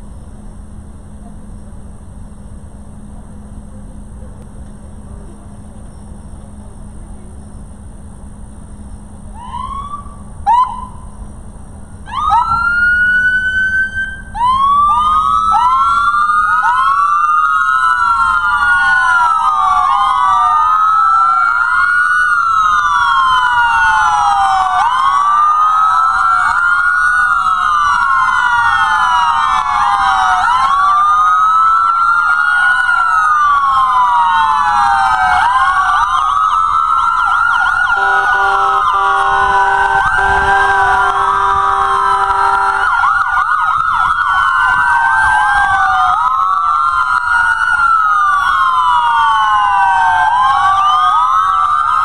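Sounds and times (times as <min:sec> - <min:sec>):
police sirens wailing: 0:00.0 - 0:52.0
police siren chirps: 0:09.0 - 0:52.0.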